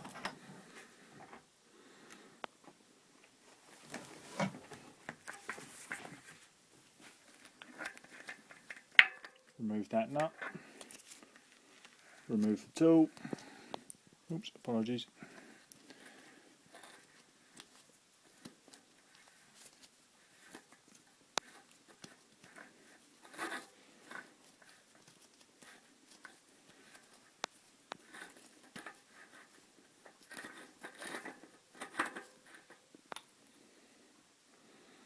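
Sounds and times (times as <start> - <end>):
light clicks and handling noise: 0.0 - 14.0, 14.6 - 33.4.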